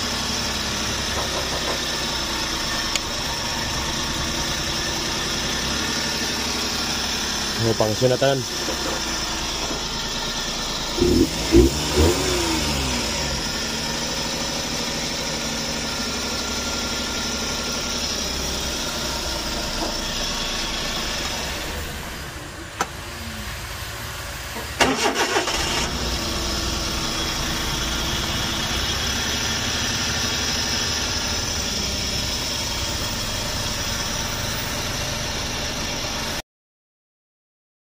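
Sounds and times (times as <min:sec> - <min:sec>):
van engine running and blipping: 0:00.0 - 0:36.4.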